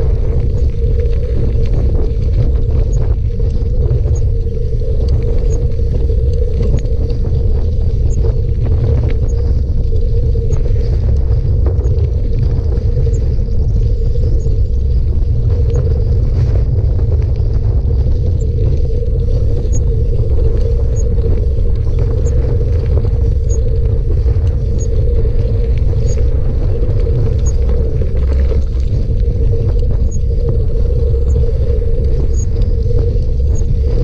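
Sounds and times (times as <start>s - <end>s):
steady hum: 0.0s - 34.0s
wind rumbling on microphone: 0.0s - 34.0s.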